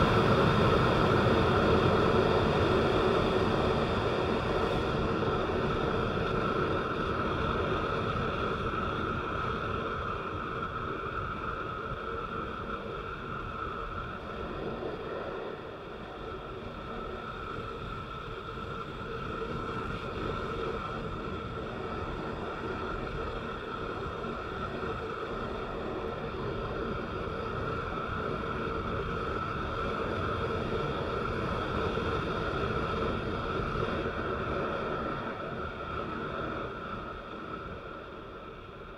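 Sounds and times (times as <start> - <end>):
vehicle engine drone: 0.0 - 38.9.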